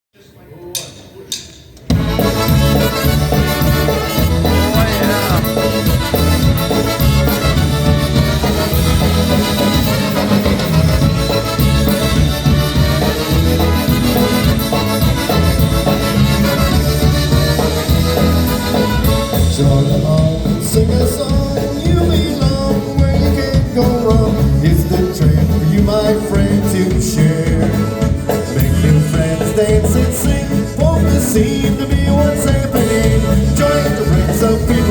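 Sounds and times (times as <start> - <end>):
polka band playing: 1.8 - 34.9
pulsing bass and drum beat: 1.9 - 34.9.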